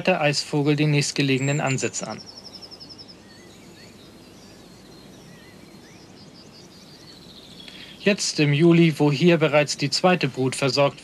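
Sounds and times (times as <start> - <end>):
faint birdsong: 0.0 - 11.0
steady low hiss: 0.0 - 11.0.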